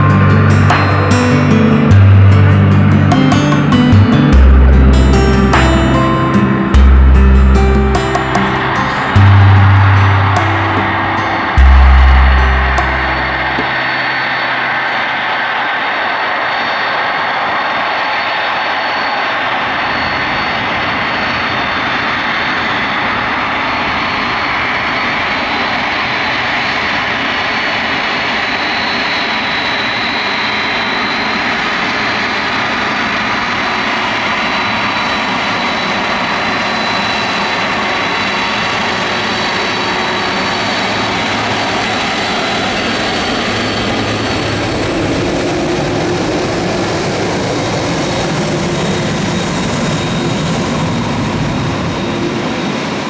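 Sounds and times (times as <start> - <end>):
jet engines rumbling with fan whistle: 0.0 - 53.0.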